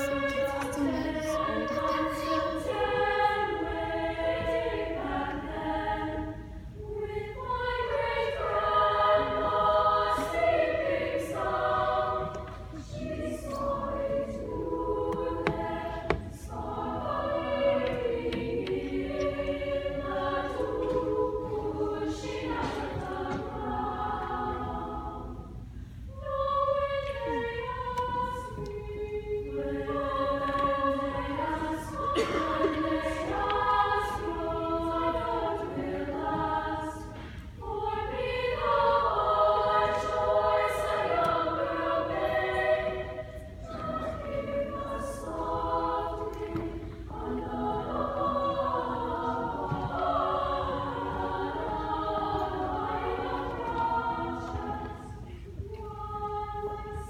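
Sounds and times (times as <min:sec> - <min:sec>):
girls' choir singing: 0:00.0 - 0:57.0.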